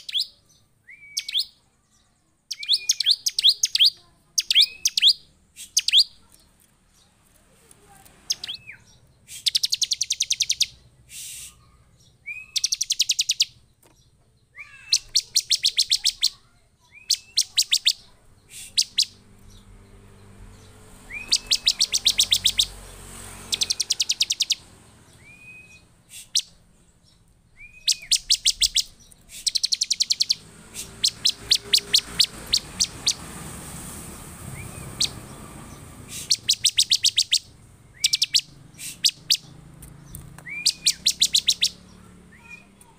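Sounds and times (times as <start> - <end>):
bird chattering song: 0.0 - 7.2, 7.9 - 42.9.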